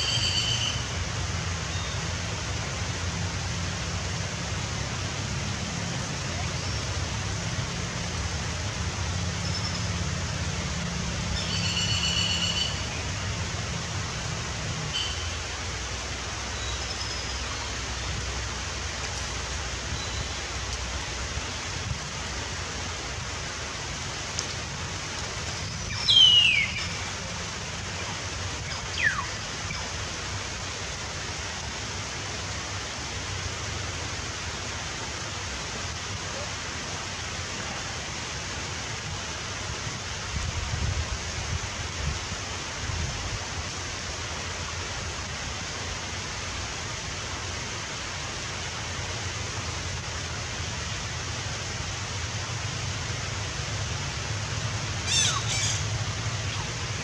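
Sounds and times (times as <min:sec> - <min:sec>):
steady hissing noise: 0:00.0 - 0:57.0.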